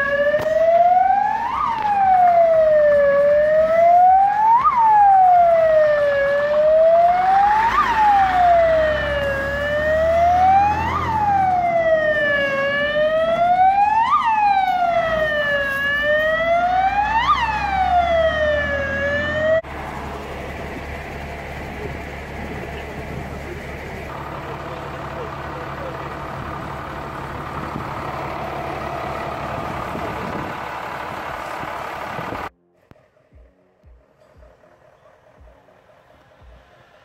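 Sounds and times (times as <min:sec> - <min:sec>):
fire engine siren wailing: 0:00.0 - 0:32.5.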